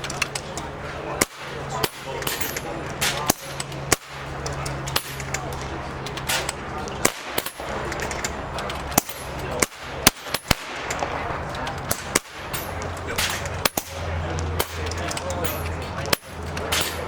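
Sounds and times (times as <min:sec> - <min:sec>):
air rifle shots: 0:00.0 - 0:17.0.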